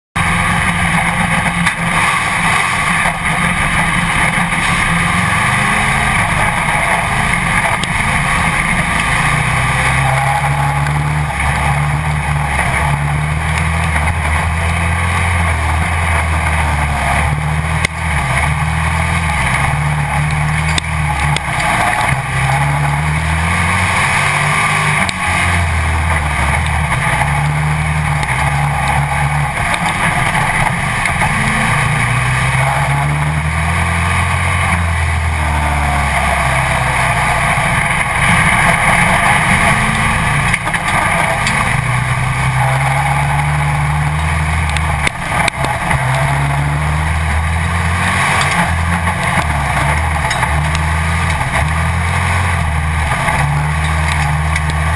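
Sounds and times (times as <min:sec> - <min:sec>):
race car engine revving: 0:00.2 - 0:54.9.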